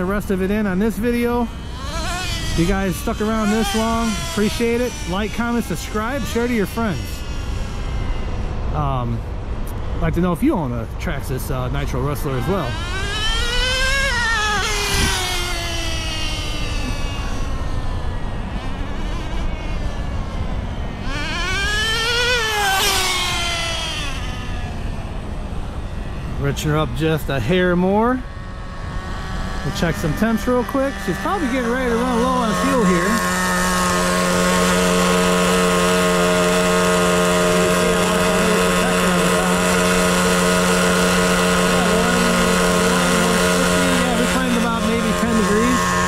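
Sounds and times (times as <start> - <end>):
model engine buzzing at high revs: 0.0 - 10.3, 11.7 - 46.0.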